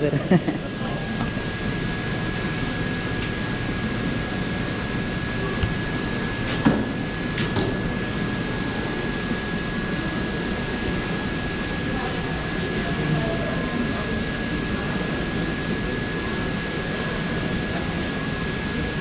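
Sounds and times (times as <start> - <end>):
shopping mall background noise: 0.0 - 19.0.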